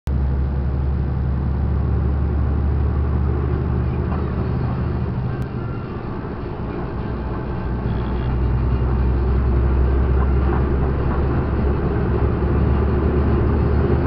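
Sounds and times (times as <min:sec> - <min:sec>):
road noise: 0:00.0 - 0:14.0
truck diesel engine droning: 0:00.1 - 0:14.0.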